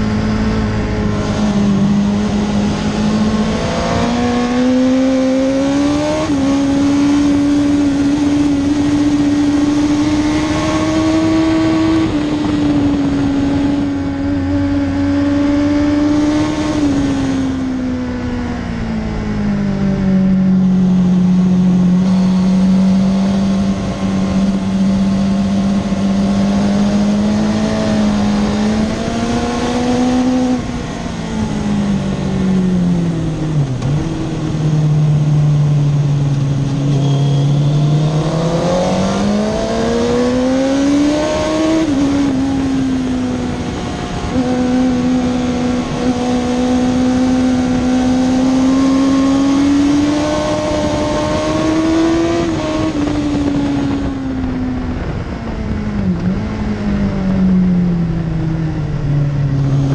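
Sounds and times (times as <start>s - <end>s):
motorcycle engine racing: 0.0s - 59.9s.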